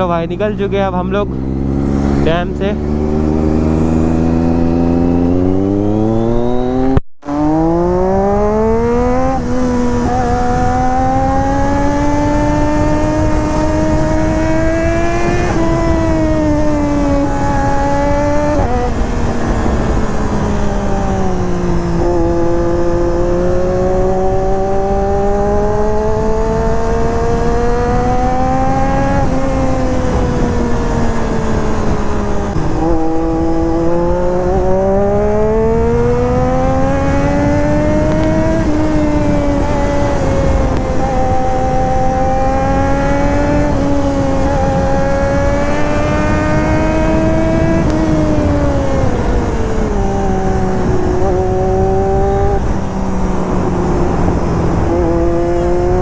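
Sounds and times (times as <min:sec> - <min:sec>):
motorcycle engine revving through upshifts: 0:00.0 - 0:56.0.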